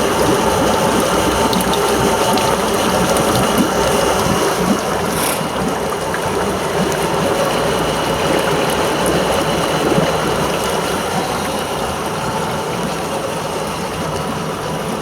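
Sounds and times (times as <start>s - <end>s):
outboard motor running: 0.0s - 15.0s
water splashing: 0.0s - 15.0s.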